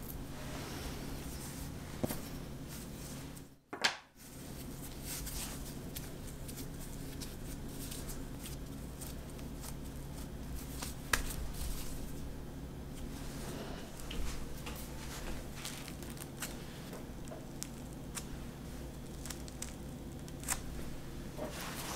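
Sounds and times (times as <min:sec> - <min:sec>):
hands handling dough: 0:00.0 - 0:21.9
low room hum: 0:00.0 - 0:21.9.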